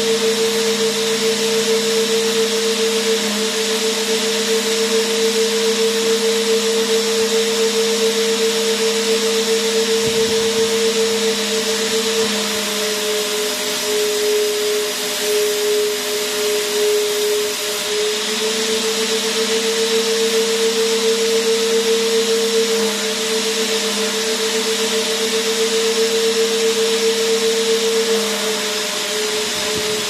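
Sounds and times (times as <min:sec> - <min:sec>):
vacuum cleaner motor running: 0:00.0 - 0:30.0.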